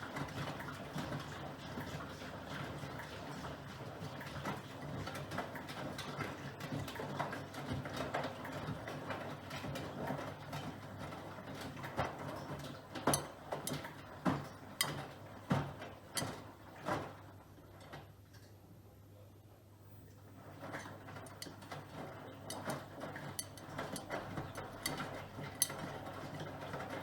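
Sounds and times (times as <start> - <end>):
washing machine drum turning: 0.0 - 17.9, 20.4 - 27.0.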